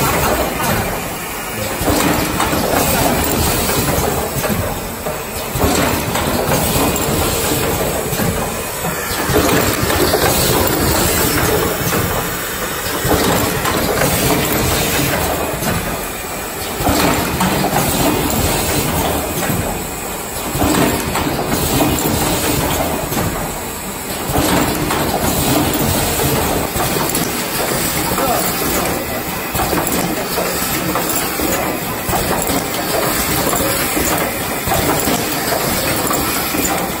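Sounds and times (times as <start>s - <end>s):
machine rattling clatter: 0.0s - 37.0s.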